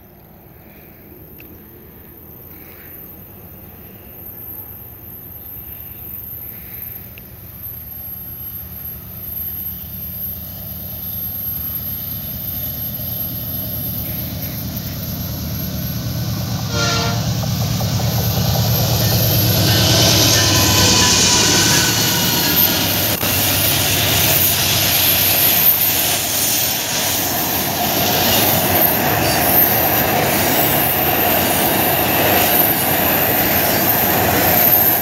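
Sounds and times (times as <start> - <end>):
locomotive engine drone: 0.0 - 35.0.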